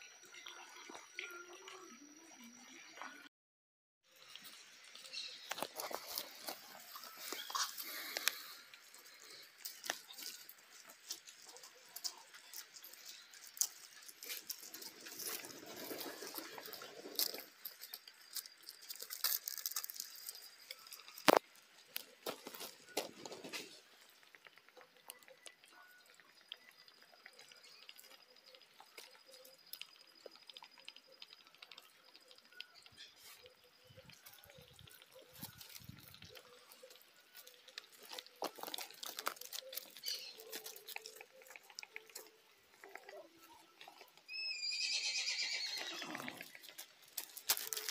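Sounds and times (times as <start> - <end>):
ducks pecking on gravel: 4.1 - 44.8, 45.4 - 47.9.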